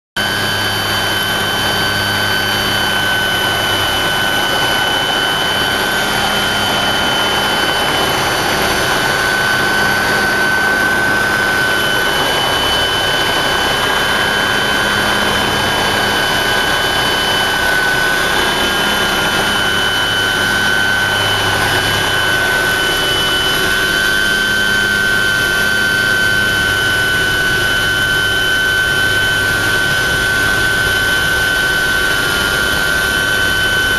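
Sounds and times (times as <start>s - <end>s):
constant high whine: 0.2s - 33.9s
helicopter engine and rotor: 0.2s - 33.9s.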